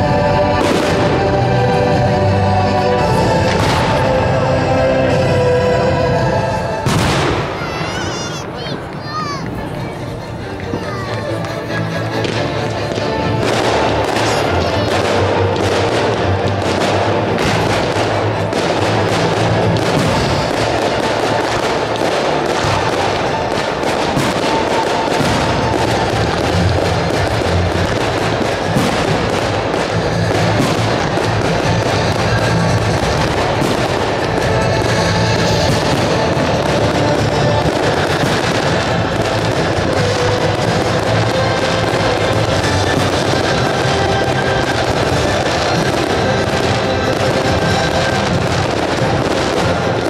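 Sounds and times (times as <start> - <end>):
fireworks bursting and crackling: 0.0 - 50.0
music playing: 0.0 - 50.0.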